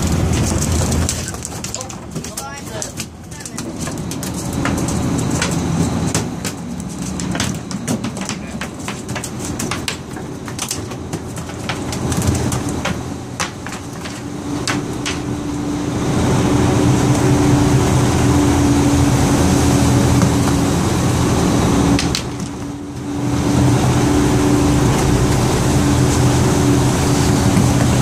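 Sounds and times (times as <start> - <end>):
boat engine running: 0.0 - 28.0
water noise: 0.0 - 28.0
wind: 0.0 - 28.0.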